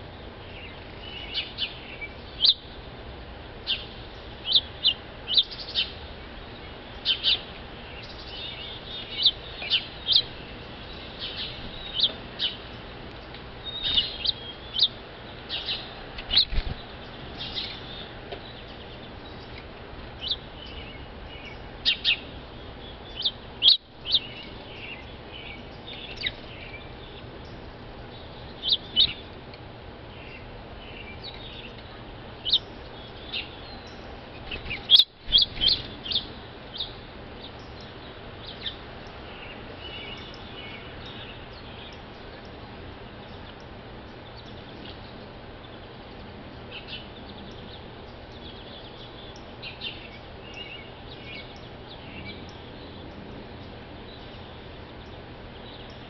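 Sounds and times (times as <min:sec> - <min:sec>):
background hiss: 0:00.0 - 0:56.0
songbirds chirping: 0:00.0 - 0:56.0.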